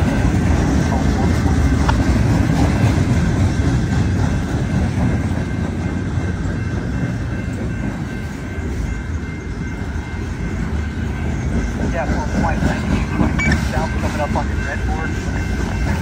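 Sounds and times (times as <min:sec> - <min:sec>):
freight train wheels on rails: 0:00.0 - 0:16.0.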